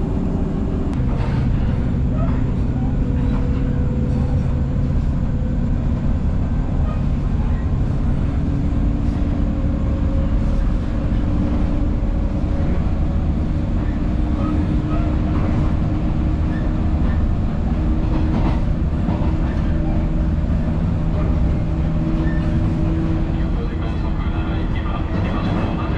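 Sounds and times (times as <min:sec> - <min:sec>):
train wheels rumbling on track: 0:00.0 - 0:25.9.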